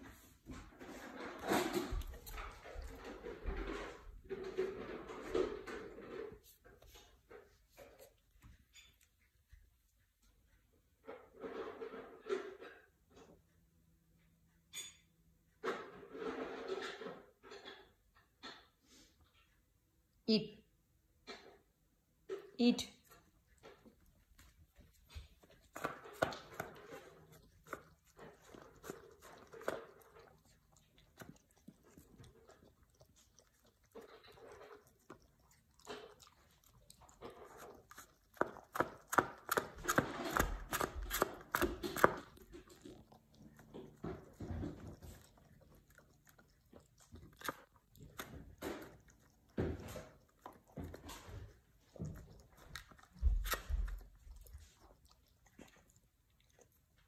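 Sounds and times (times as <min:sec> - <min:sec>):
dog chewing food from bowl: 0:00.0 - 0:13.8, 0:23.0 - 0:57.0.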